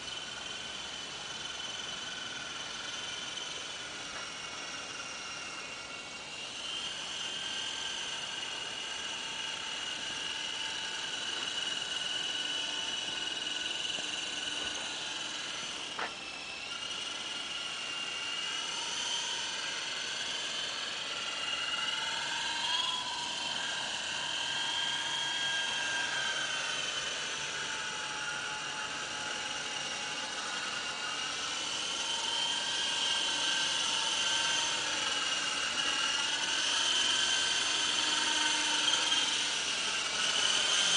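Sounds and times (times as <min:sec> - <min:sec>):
model helicopter motor whine: 0:00.0 - 0:40.9.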